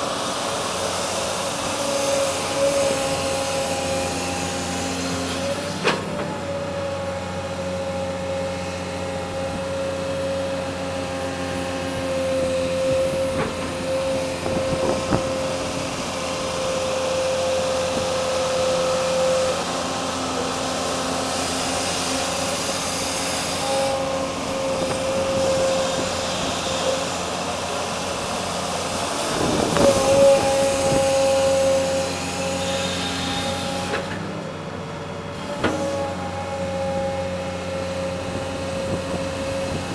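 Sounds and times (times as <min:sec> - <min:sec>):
excavator diesel engine: 0:00.0 - 0:39.9
hydraulic whine: 0:00.0 - 0:39.9.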